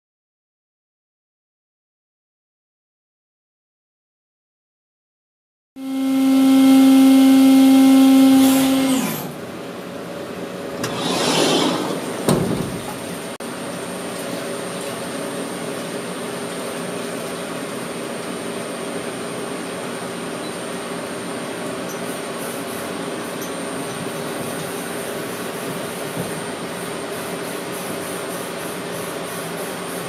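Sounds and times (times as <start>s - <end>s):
milling machine whirring hum: 5.8s - 30.0s.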